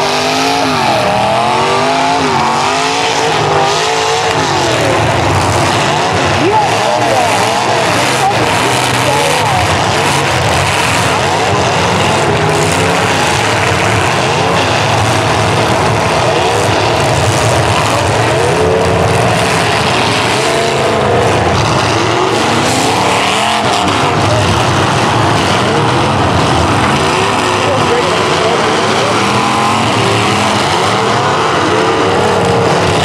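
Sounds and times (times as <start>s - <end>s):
car engines revving hard: 0.0s - 33.0s.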